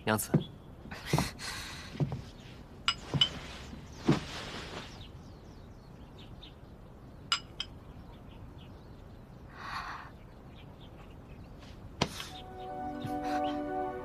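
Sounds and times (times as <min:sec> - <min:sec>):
faint bird chirps: 0:02.2 - 0:14.0.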